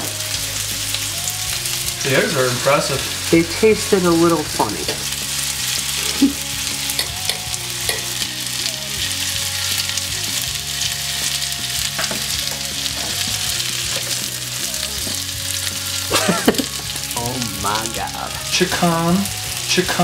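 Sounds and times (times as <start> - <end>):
chicken sizzling in hot oil: 0.0 - 20.0
oil crackling and popping: 0.0 - 20.0.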